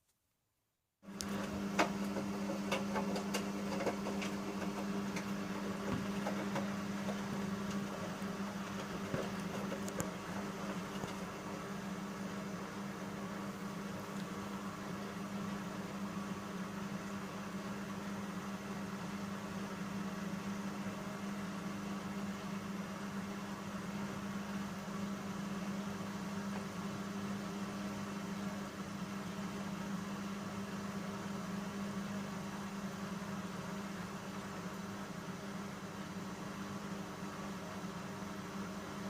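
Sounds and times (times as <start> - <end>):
washing machine motor hum: 1.0 - 39.0.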